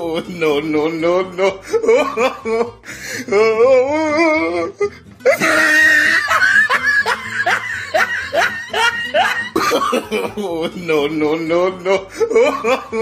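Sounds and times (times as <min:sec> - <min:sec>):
person laughing: 0:00.0 - 0:13.0.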